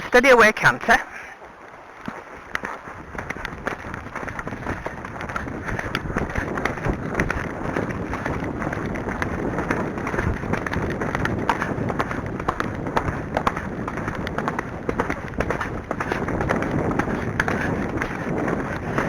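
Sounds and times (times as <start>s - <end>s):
horse hoofbeats cantering: 1.4s - 19.0s
wind on microphone: 1.4s - 19.0s
tack and movement noise: 1.7s - 19.0s.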